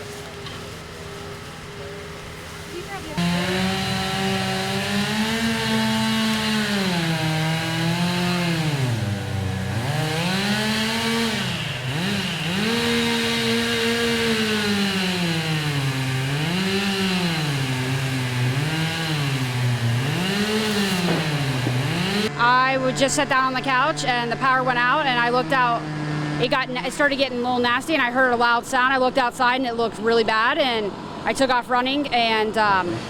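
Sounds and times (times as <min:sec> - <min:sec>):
chainsaw running and cutting: 0:00.1 - 0:26.8.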